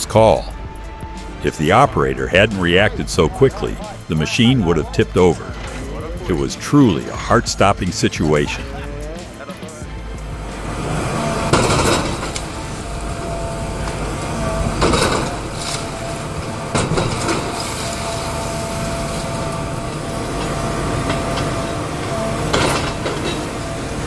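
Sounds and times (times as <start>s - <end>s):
heavy machinery drone: 0.0s - 24.0s.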